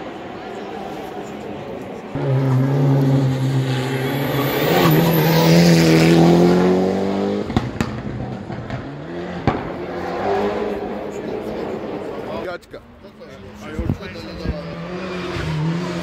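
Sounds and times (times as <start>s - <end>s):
race car engine accelerating: 2.1s - 12.4s, 13.3s - 16.0s.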